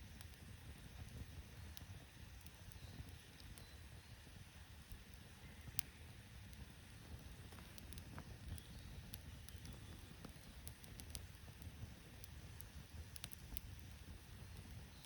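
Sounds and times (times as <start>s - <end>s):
sharp pops from fire: 0.0s - 3.7s, 4.3s - 15.0s
campfire crackling: 0.0s - 15.0s.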